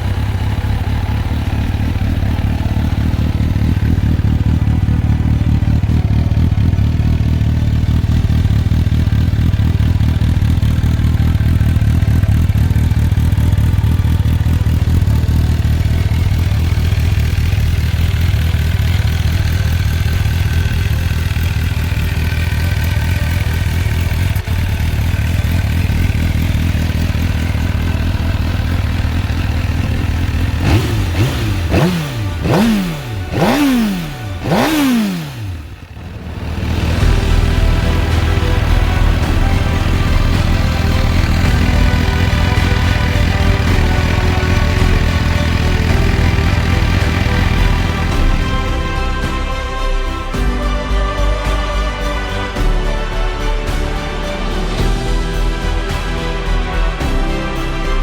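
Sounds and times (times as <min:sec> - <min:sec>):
motorcycle engine idling: 0:00.0 - 0:53.6.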